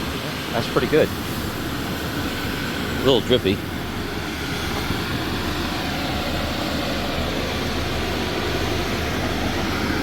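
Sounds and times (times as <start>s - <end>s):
mechanical rumble and hiss: 0.0s - 10.0s.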